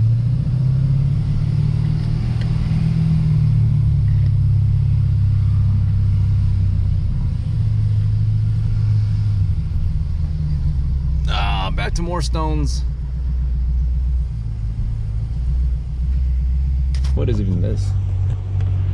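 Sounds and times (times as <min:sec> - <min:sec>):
car engine humming at cruise: 0:00.0 - 0:18.9
tyre and road noise: 0:00.0 - 0:18.9.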